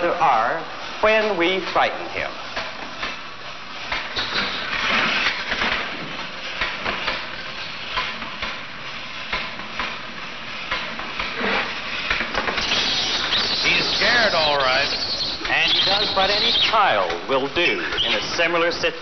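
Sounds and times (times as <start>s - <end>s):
machine hissing rattle: 2.2s - 18.7s.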